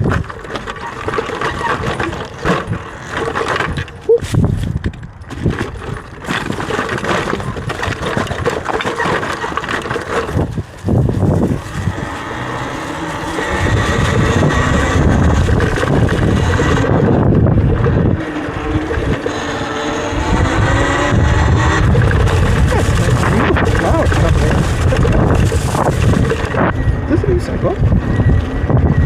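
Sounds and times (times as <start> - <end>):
tyre and drivetrain noise: 0.0 - 29.0
wind buffeting microphone: 0.0 - 29.0.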